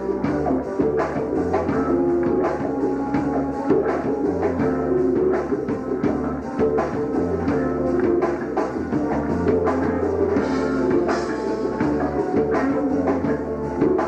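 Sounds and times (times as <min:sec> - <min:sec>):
drums: 0:00.0 - 0:14.0
electric guitar: 0:00.0 - 0:14.0
saxophone: 0:00.0 - 0:14.0.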